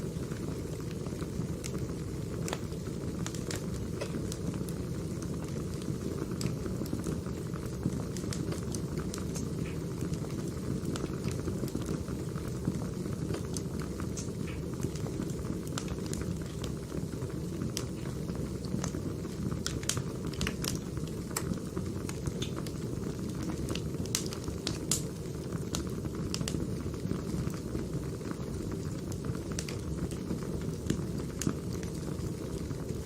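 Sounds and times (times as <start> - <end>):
firewood crackling: 0.0 - 33.0
low rumble of flames: 0.0 - 33.0.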